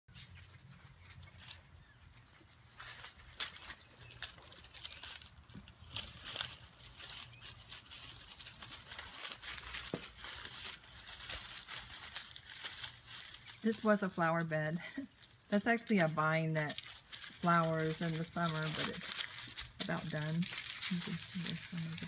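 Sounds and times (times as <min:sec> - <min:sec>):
dry leaves rustling and crackling: 0:00.1 - 0:22.0.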